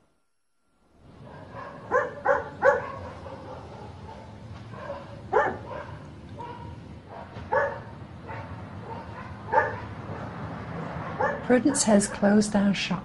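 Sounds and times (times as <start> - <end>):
dog barking: 1.2 - 12.2.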